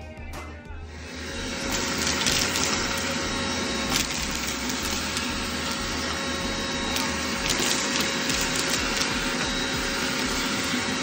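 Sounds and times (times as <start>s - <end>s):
vacuum cleaner running: 0.9s - 11.0s
hard bits rattling up hose: 1.6s - 11.0s.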